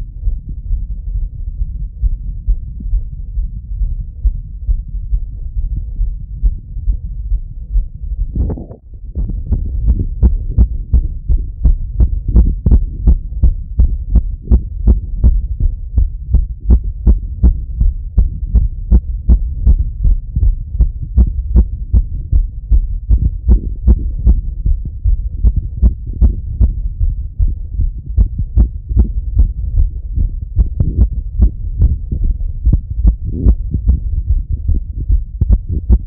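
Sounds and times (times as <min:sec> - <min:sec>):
fast heartbeat thumps: 0:00.0 - 0:36.0.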